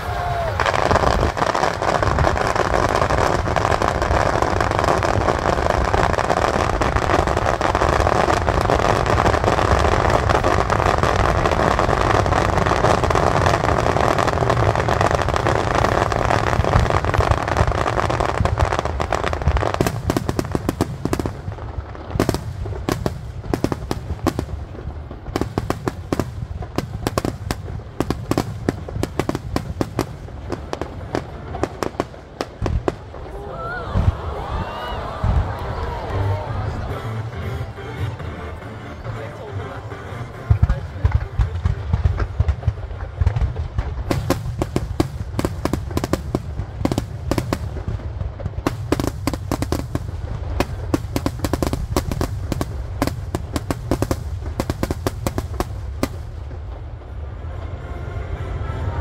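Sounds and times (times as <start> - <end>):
fireworks explosions and crackle: 0.0 - 59.0.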